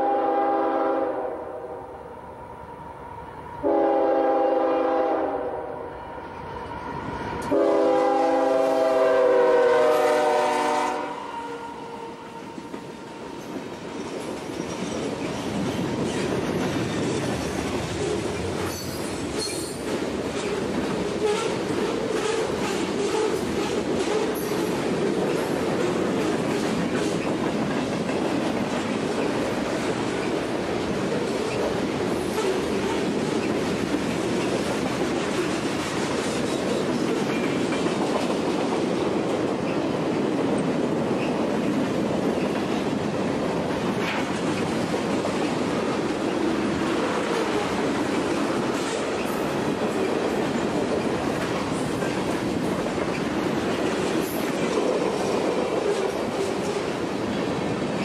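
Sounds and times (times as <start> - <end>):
train wheels rumbling on rails: 3.0 - 58.0.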